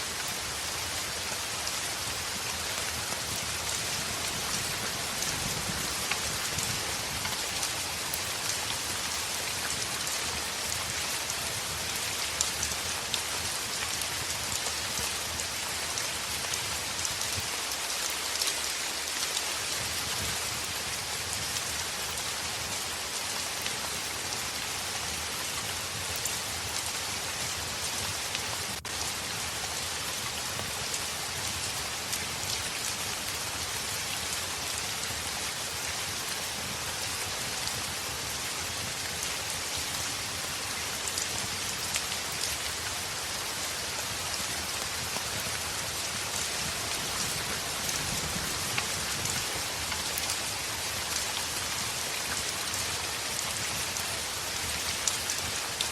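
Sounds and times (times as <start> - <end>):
heavy rain on a window: 0.0 - 55.9.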